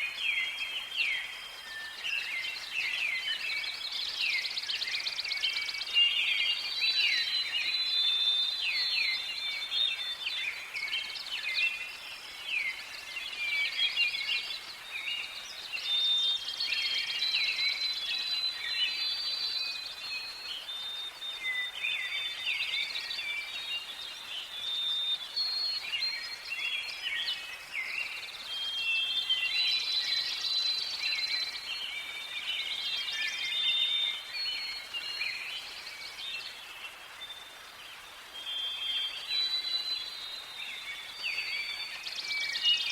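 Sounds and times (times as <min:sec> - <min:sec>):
faint background hiss: 0:00.0 - 0:42.9
songbirds chirping and trilling: 0:00.0 - 0:42.9.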